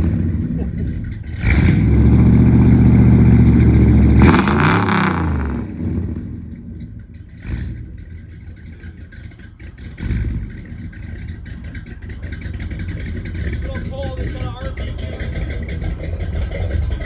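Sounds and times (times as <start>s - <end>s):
car engine revving and idling: 0.0s - 17.0s
engine rattle: 0.0s - 17.0s.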